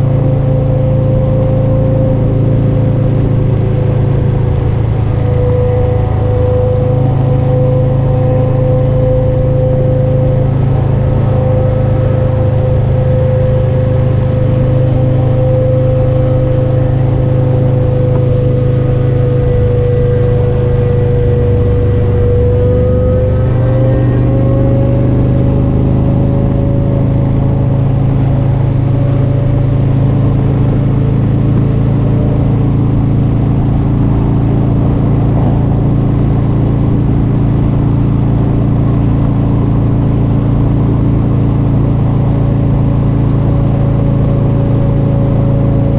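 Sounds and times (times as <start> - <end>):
motorcycle engine cruising: 0.0 - 45.9.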